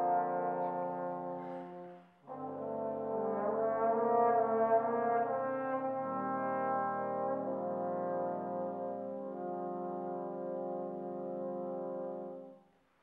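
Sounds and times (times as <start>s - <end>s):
trombones playing sustained chords: 0.0s - 12.6s.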